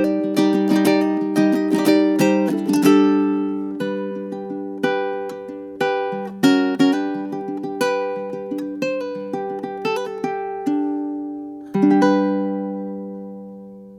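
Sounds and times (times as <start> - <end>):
ukulele notes and chords: 0.0 - 13.9.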